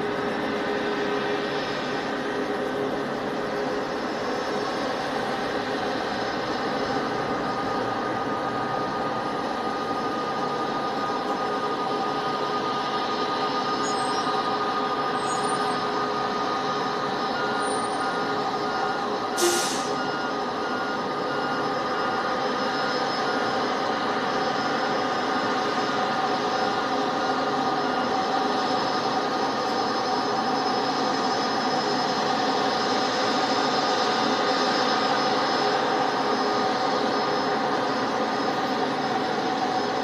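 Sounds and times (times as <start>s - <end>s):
airliner rushing hum: 0.0s - 40.0s.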